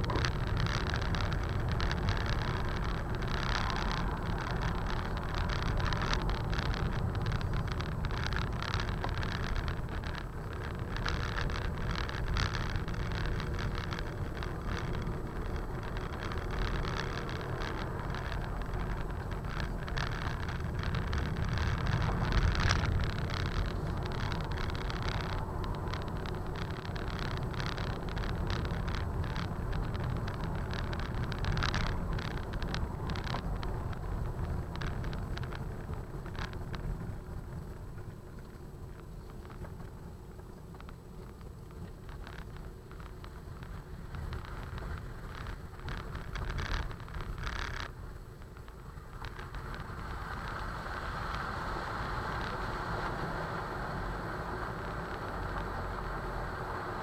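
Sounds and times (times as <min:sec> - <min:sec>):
engine and tyre rumble: 0:00.0 - 0:57.0
small clicks and knocks: 0:00.0 - 0:57.0.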